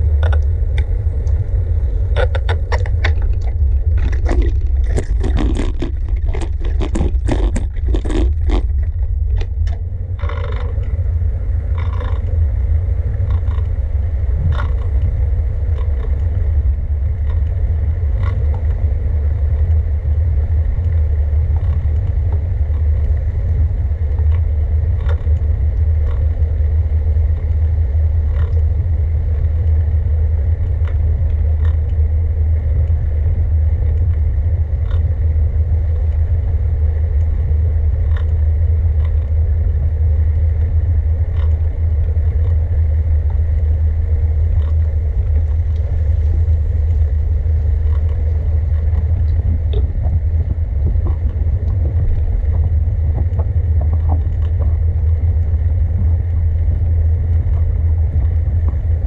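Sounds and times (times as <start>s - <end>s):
faint clicks and rattles: 0.0s - 1.4s, 2.0s - 11.0s, 11.7s - 12.4s, 13.1s - 13.7s, 14.4s - 15.1s, 15.7s - 16.4s, 17.0s - 35.2s, 37.0s - 59.0s
wind and road noise rumble: 0.0s - 59.0s.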